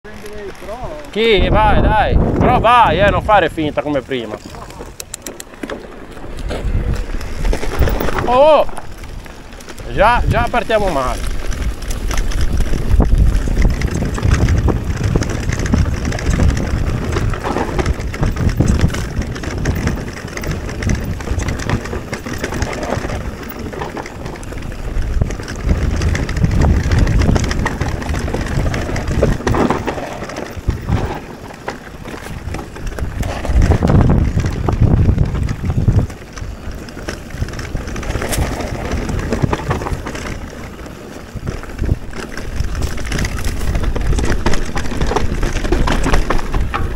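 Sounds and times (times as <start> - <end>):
bike tyres crunching on trail: 0.0 - 46.9
wind rumbling on microphone: 0.0 - 46.9
bike rattling over rocks: 0.1 - 46.9.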